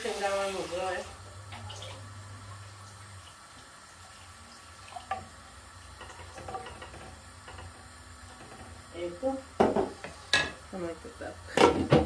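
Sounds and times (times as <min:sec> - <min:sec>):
pots simmering: 0:00.0 - 0:12.0.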